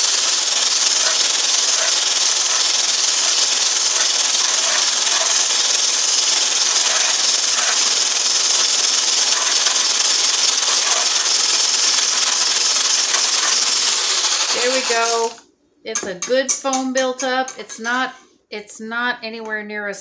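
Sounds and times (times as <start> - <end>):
stick blender whisking: 0.0 - 15.4, 16.0 - 18.0.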